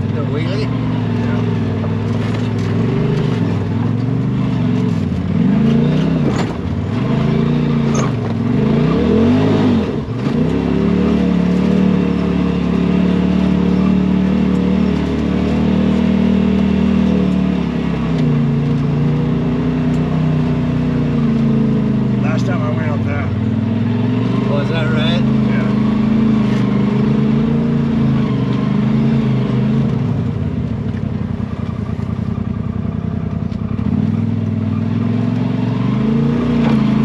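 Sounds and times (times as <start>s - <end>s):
utility vehicle engine revving: 0.0s - 37.0s.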